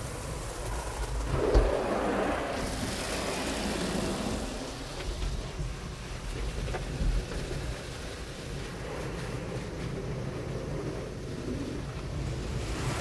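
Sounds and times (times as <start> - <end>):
water spraying on car: 0.0 - 13.0.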